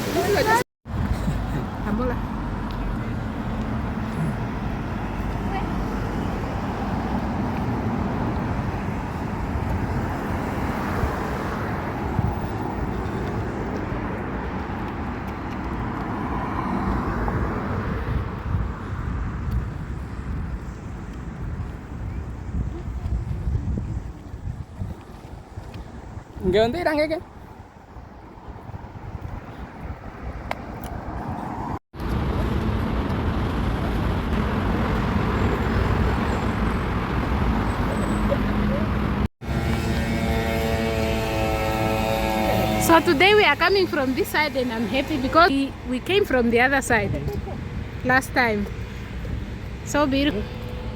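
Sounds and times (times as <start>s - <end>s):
vehicle rumbling in motion: 0.0s - 50.9s.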